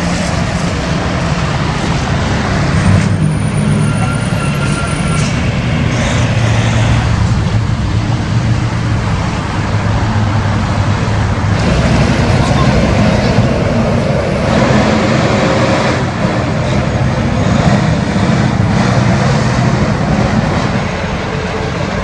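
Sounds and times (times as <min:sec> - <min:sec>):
truck diesel engine running: 0:00.0 - 0:22.0
tyre and road noise: 0:00.0 - 0:22.0.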